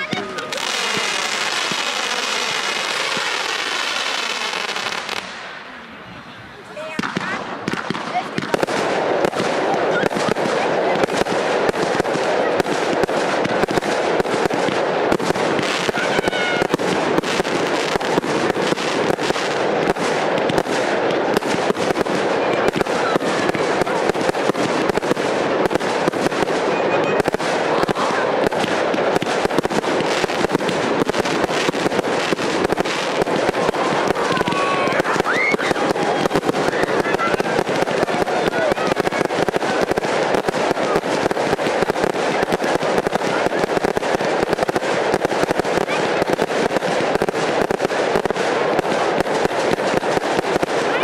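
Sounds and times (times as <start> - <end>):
firework barrage: 0.0 - 51.0.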